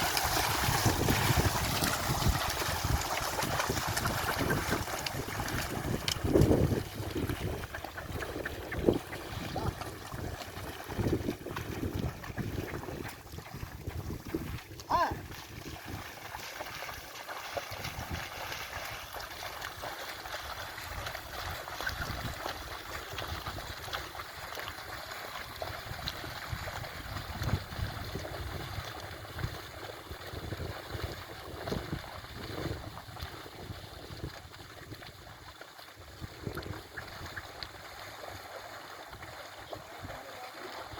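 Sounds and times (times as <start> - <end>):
wind on microphone: 0.0 - 17.0, 17.7 - 18.9, 20.8 - 24.1, 25.4 - 38.4
muddy water sloshing and splashing: 0.0 - 40.9.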